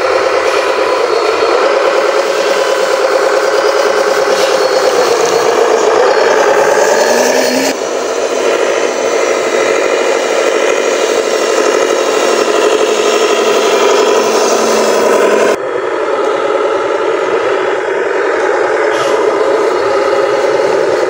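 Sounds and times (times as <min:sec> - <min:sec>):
toy truck engine drone with rattling: 0:00.0 - 0:21.0.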